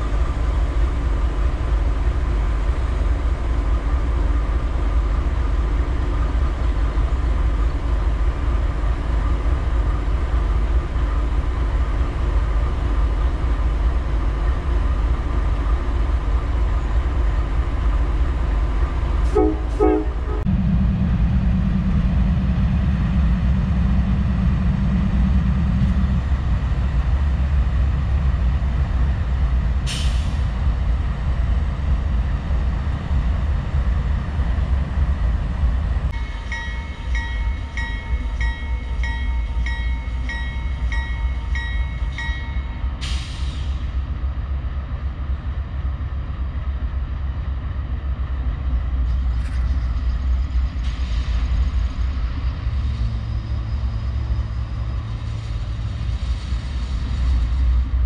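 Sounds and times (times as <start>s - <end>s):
diesel locomotives idling: 0.0s - 58.0s.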